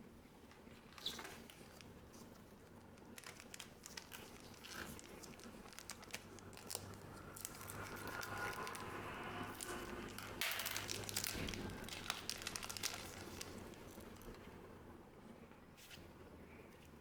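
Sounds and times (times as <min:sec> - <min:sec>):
wrapper crinkling and tearing: 0:00.6 - 0:14.6.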